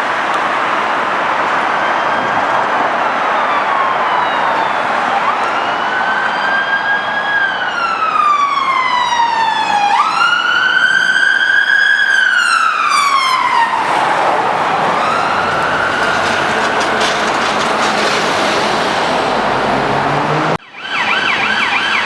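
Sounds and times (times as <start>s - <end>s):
road noise: 0.0s - 22.0s
siren wailing: 0.3s - 22.0s.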